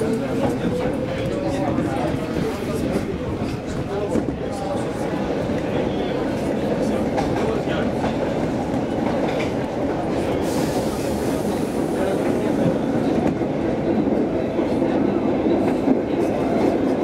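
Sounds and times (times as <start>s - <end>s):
subway car wheels rumbling: 0.0s - 17.0s.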